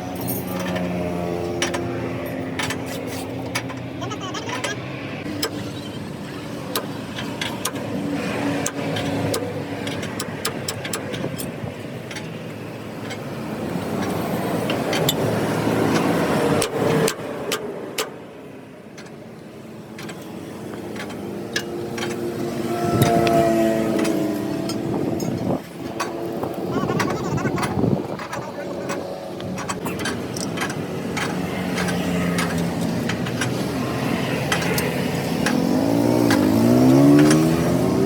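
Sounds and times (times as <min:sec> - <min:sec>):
metallic clicks and knocks: 0:00.1 - 0:04.8, 0:06.7 - 0:08.0, 0:08.6 - 0:13.3, 0:13.9 - 0:18.2, 0:18.9 - 0:22.3, 0:23.0 - 0:37.9.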